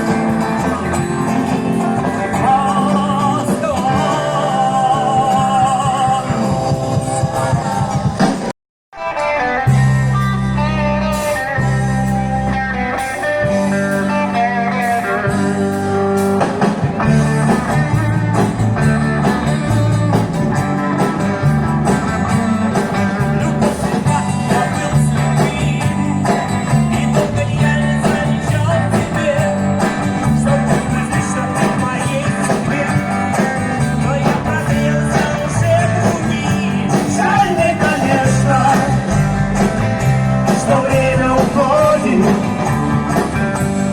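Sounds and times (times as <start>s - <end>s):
bass line: 0.0s - 43.9s
live rock band playing: 0.0s - 43.9s.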